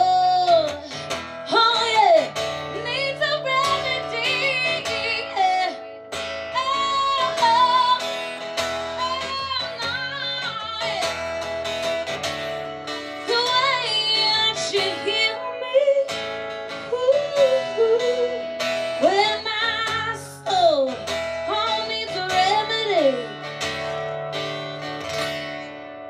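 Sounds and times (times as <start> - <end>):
country band playing: 0.0 - 25.9
acoustic guitar: 0.0 - 26.0.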